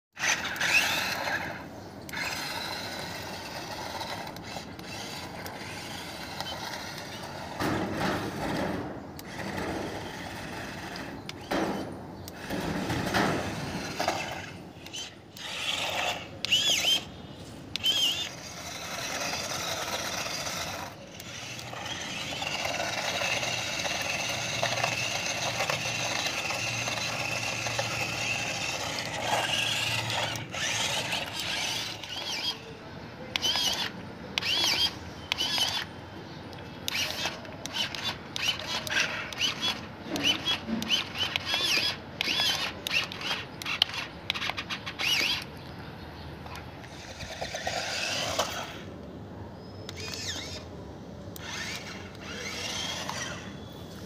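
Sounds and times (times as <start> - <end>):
toy car motors whirring: 0.2 - 45.8, 46.4 - 49.0, 49.8 - 54.0.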